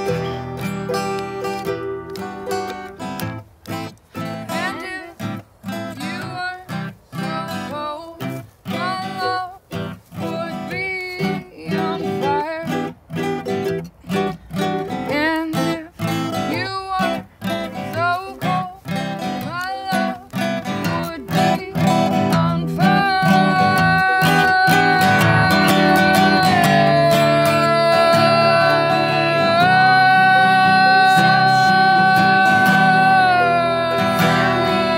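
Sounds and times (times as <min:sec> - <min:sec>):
acoustic guitar strumming: 0:00.0 - 0:34.9
person singing: 0:00.0 - 0:34.9
ukulele strumming: 0:00.0 - 0:34.9.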